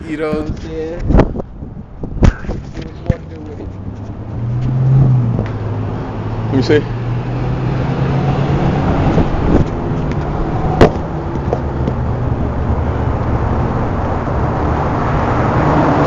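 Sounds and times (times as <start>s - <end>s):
outdoor traffic rumble: 0.0s - 16.0s.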